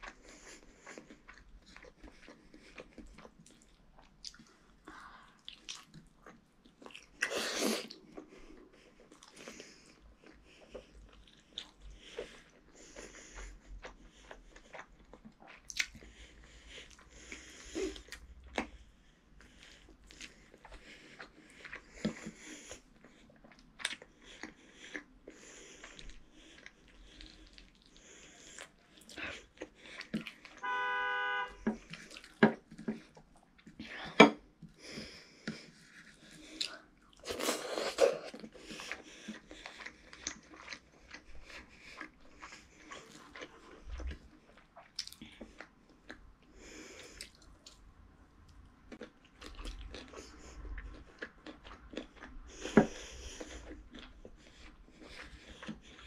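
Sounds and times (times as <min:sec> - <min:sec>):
chewing and lip-smacking: 0:00.0 - 0:30.6, 0:31.6 - 0:56.0.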